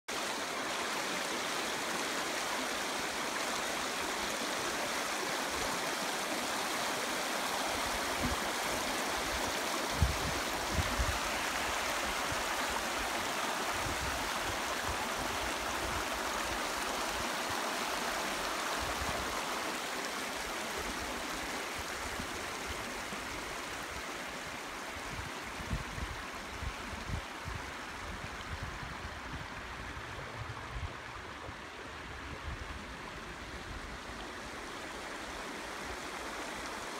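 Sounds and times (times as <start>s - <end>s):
stream rushing over stones: 0.1s - 36.9s.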